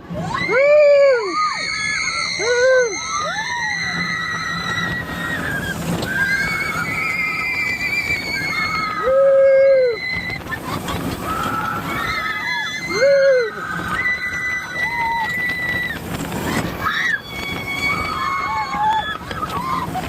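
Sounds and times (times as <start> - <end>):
roller coaster train rumbling: 0.0 - 20.0
riders screaming: 0.1 - 20.0.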